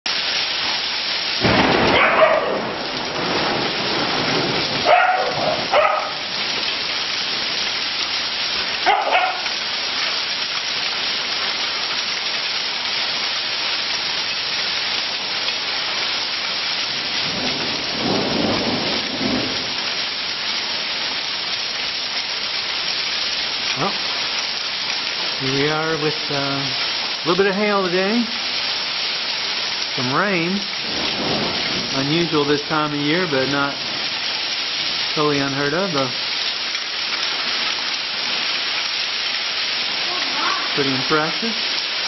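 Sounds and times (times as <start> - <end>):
heavy rain and hail: 0.0 - 42.0.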